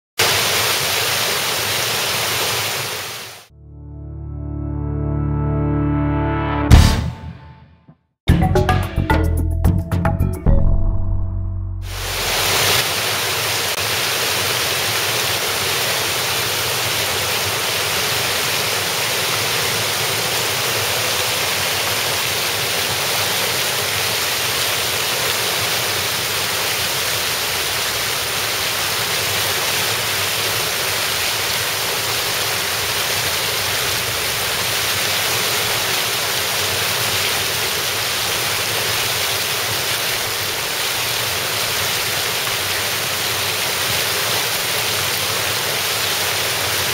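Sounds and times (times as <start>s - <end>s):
water pouring over small waterfall: 0.2s - 3.5s, 11.9s - 46.9s.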